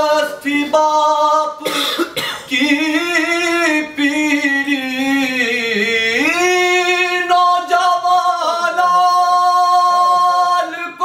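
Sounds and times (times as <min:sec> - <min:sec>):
man singing a lament: 0:00.0 - 0:11.0.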